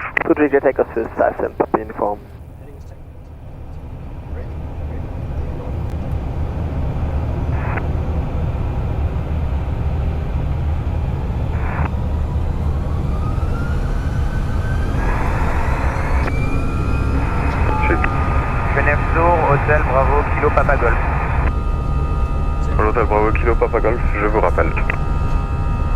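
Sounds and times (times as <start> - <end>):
deep jet engine rumble: 0.0 - 25.9
jet engine whine rising: 0.3 - 25.9.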